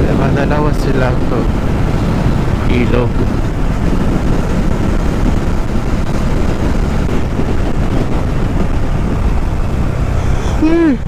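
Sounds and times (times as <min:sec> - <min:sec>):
motorcycle engine: 0:00.0 - 0:11.0
wind on microphone: 0:00.0 - 0:11.0.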